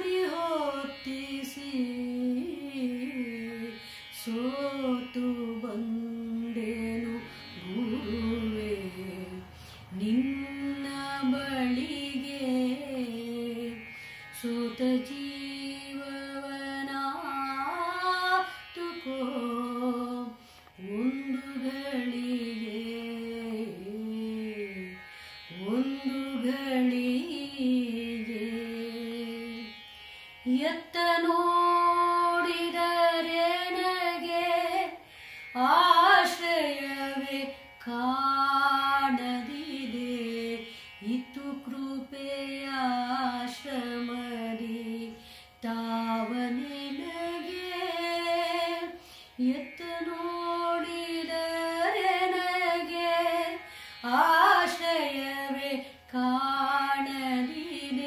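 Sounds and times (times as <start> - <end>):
woman singing: 0.0 - 29.8, 30.4 - 58.0.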